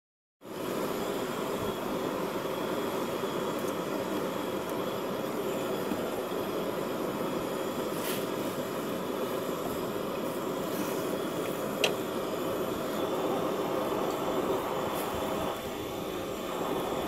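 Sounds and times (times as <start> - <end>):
gas burner hissing: 0.4 - 17.0.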